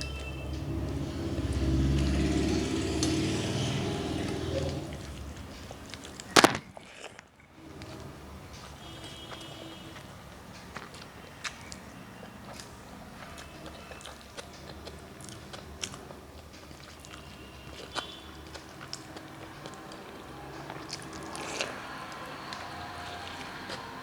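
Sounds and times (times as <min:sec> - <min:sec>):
person chewing and crunching: 0:00.0 - 0:24.0.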